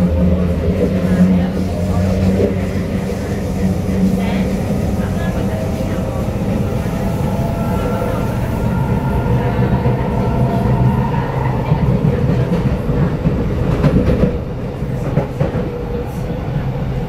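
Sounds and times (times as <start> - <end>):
train whine: 0.0 - 17.0
wheels rumbling on rail: 0.0 - 17.0.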